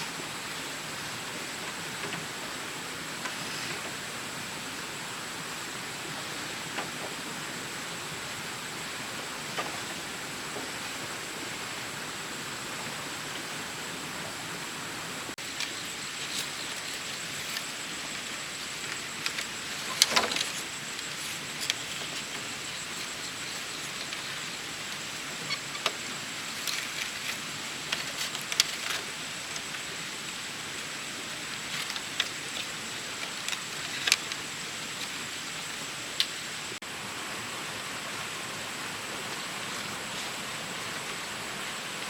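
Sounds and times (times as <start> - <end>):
steady rushing hiss: 0.0 - 42.0.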